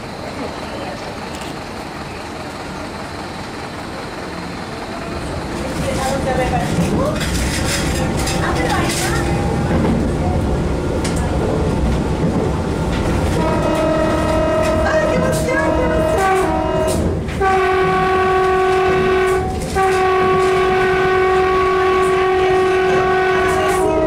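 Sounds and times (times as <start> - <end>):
train wheels rumbling on rail: 0.0 - 24.0
train motor whining: 4.7 - 24.0.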